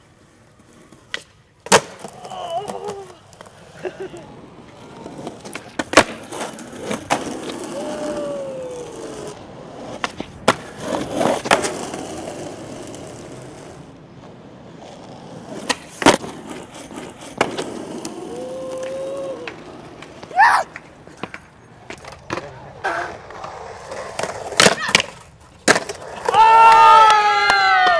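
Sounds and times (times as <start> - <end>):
skateboard trucks grinding curb: 0.0 - 27.9
skateboard wheels rolling on asphalt: 0.0 - 27.9
skateboard tail clacks: 0.3 - 3.9, 4.5 - 14.4, 15.0 - 27.9.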